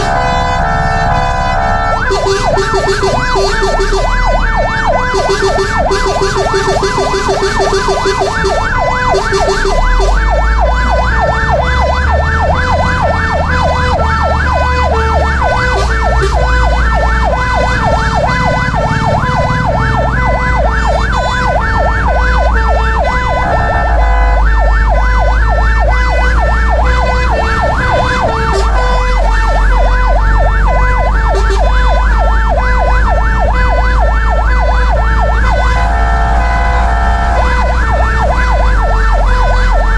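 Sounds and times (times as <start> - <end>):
electronic siren yelping: 0.0 - 39.9
truck engine running: 0.0 - 39.9.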